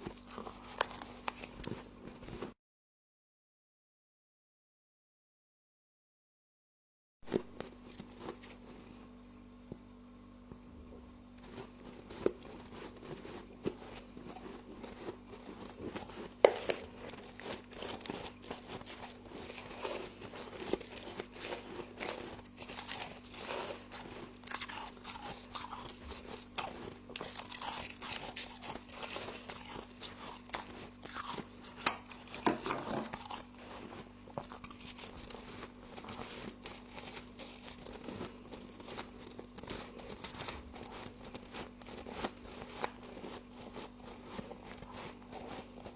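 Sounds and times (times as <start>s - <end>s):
chewing and crunching frost: 0.0s - 2.6s, 7.3s - 9.2s, 11.0s - 45.9s.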